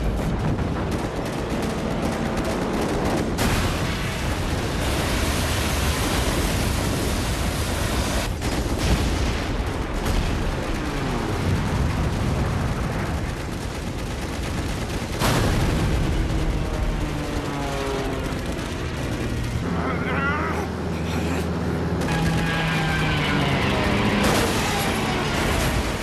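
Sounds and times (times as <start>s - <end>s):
explosions: 0.0s - 20.1s, 22.0s - 26.0s
anti-aircraft gunfire: 0.0s - 20.8s, 21.6s - 26.0s.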